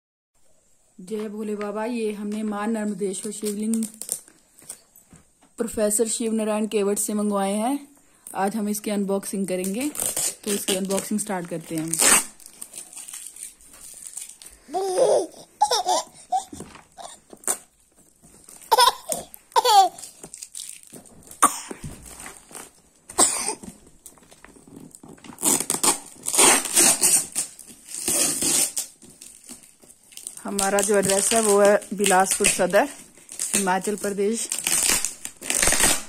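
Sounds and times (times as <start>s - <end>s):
plastic wrapping crinkling: 1.3s - 5.5s, 7.5s - 36.0s.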